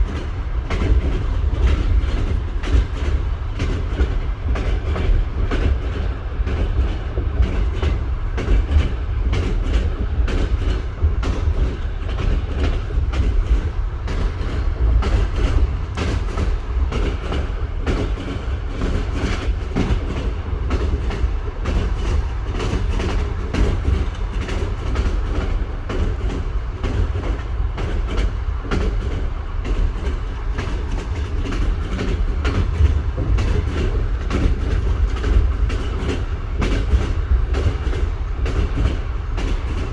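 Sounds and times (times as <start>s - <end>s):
deep rumble of moving train: 0.0s - 39.9s
train wheels clickety-clack: 0.0s - 39.9s.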